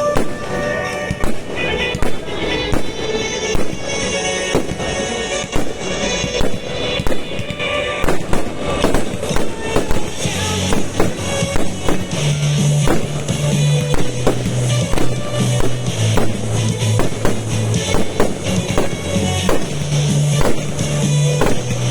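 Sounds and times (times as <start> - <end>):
fireworks banging: 0.0 - 21.9
pop music with heavy bass: 0.0 - 21.9.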